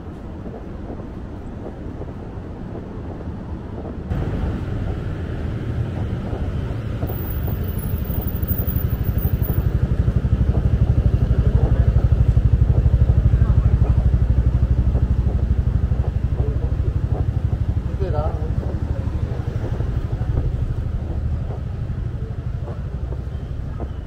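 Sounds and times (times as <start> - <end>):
traffic engines rumbling: 0.0 - 24.0
close engine pulsing: 4.1 - 24.0.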